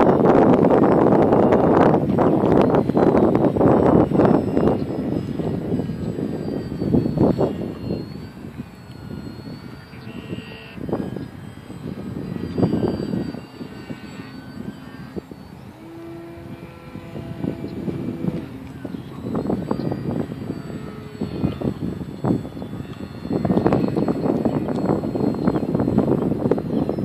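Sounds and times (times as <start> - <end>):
model plane motor whining: 0.0 - 27.0
wind buffeting microphone: 0.0 - 27.0.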